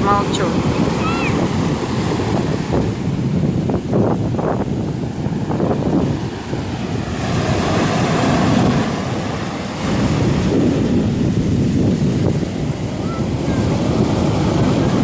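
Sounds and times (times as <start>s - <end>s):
storm surf on pebble beach: 0.0s - 15.0s
wind buffeting microphone: 0.0s - 15.0s.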